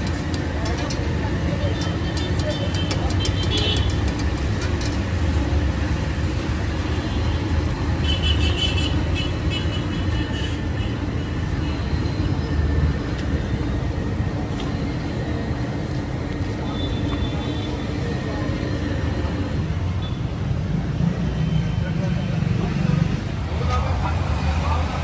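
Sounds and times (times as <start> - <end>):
low rumble of street noise: 0.0 - 25.0.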